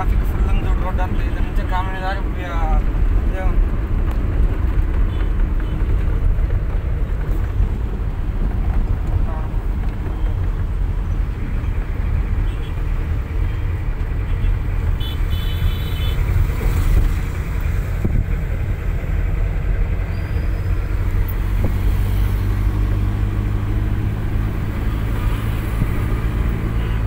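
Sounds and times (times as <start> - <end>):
car engine rumble and road noise: 0.0 - 27.0.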